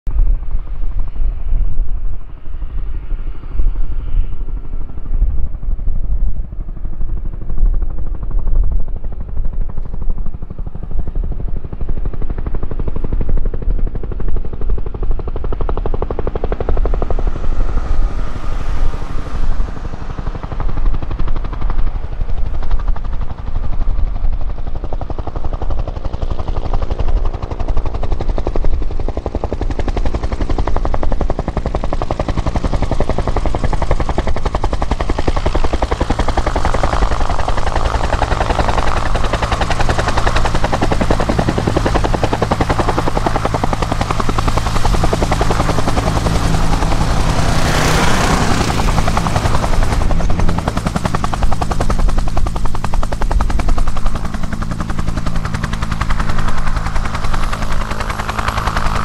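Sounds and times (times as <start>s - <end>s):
turbine engine whine: 0.1s - 59.0s
helicopter rotor thumping: 6.5s - 59.0s.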